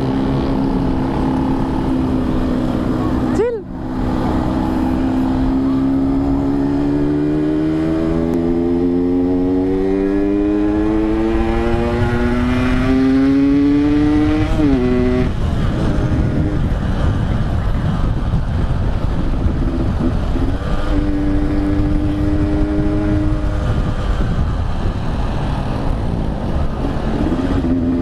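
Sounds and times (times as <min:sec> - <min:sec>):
motorcycle engine accelerating: 0:00.0 - 0:28.0
steady rushing noise: 0:00.0 - 0:28.0.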